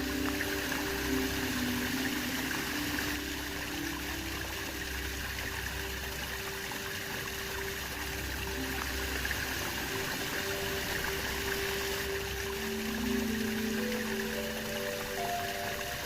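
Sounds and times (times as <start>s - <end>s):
soft held music notes: 0.0s - 16.0s
waterfall rushing: 0.0s - 16.0s.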